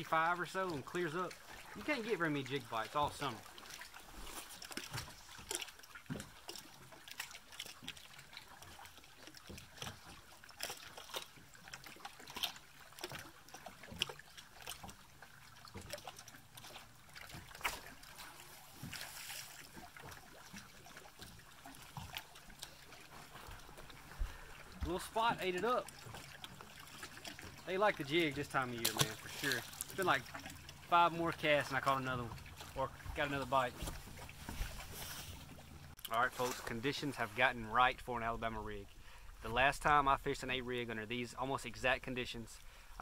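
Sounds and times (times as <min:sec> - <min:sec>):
waves lapping against boat hull: 0:00.0 - 0:43.0.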